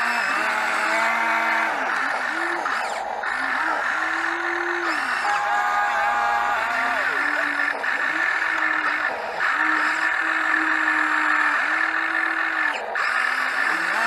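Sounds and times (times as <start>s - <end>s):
construction machinery engine hum: 0.0s - 14.0s.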